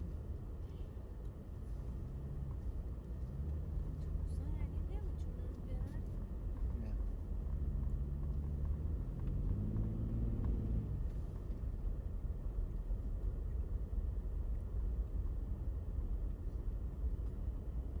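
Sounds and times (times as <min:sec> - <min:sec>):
road noise: 0:00.0 - 0:17.9
car engine rumble: 0:00.0 - 0:18.0.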